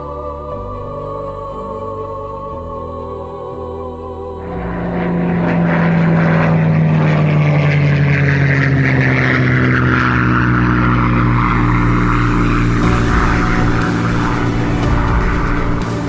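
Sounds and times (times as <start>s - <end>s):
piston aircraft engine droning: 0.0s - 16.0s.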